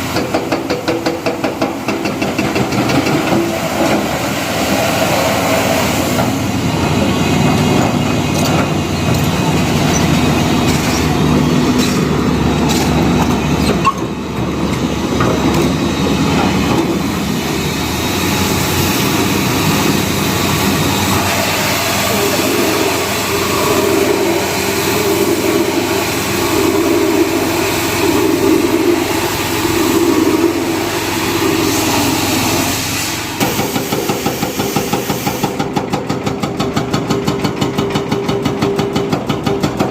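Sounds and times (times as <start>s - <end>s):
diesel earth-moving machinery engines: 0.0s - 39.9s.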